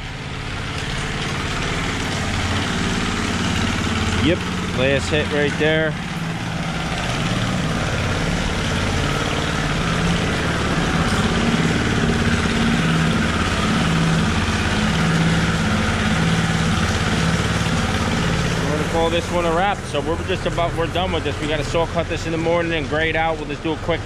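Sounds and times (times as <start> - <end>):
power trowel engine drone: 0.0 - 24.0.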